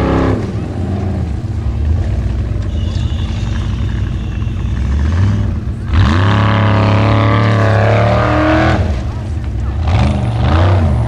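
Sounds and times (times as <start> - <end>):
buggy engine revving under load: 0.0 - 11.0.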